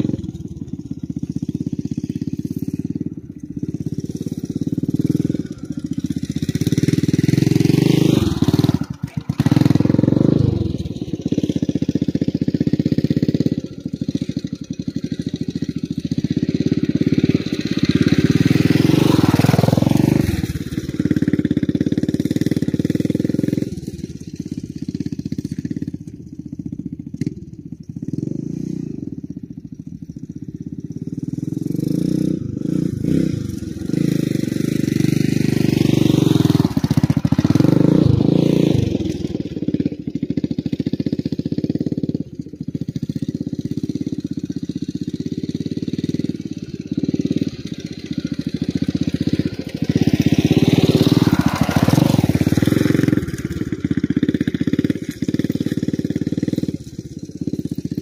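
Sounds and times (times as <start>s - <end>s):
dirt bike engine revving: 0.0s - 26.1s, 30.9s - 58.0s.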